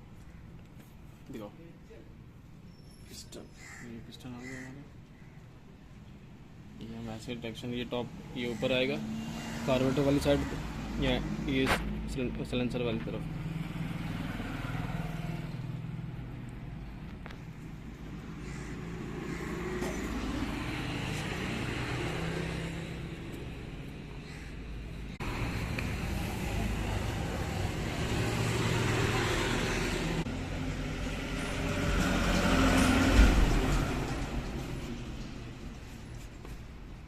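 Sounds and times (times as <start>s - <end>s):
road traffic passing: 4.4s - 37.0s.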